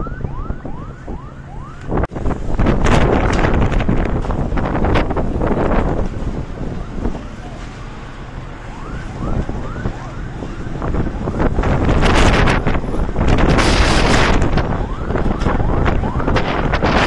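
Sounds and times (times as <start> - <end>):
strong wind buffeting microphone: 0.0 - 7.8, 8.4 - 17.0.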